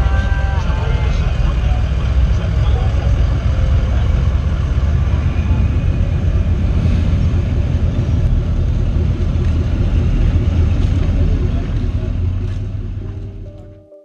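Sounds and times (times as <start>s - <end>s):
trucks driving slowly past: 0.0s - 13.8s
low engine rumble: 0.0s - 13.9s.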